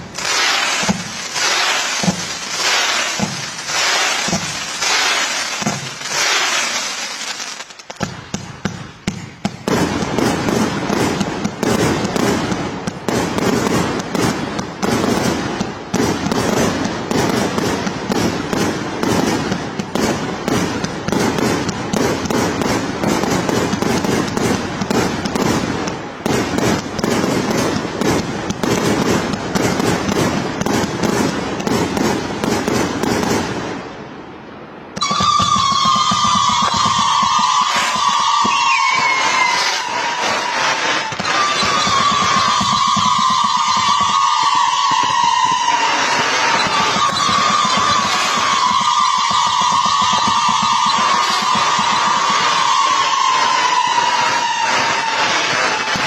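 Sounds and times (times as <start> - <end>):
firework bangs: 0.0 - 56.0
fireworks crackling barrage: 0.0 - 56.0.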